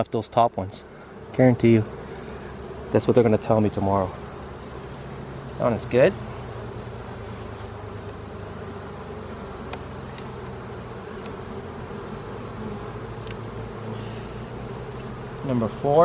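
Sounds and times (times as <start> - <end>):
bees buzzing: 0.6 - 16.0.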